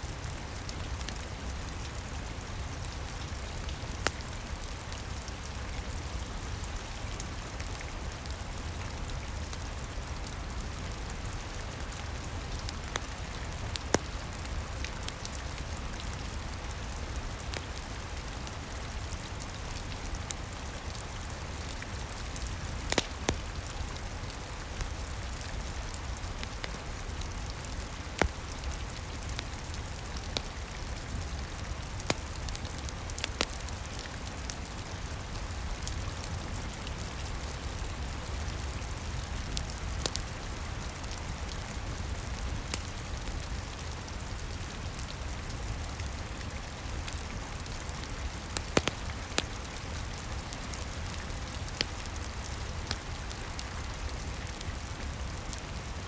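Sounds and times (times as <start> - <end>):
steady rain: 0.0 - 56.0
fireplace crackling and popping: 0.2 - 56.0.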